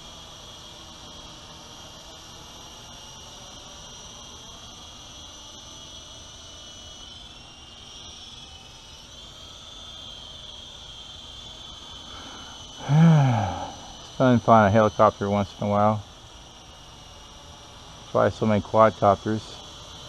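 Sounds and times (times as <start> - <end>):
toy helicopter motor whine: 0.0 - 20.0.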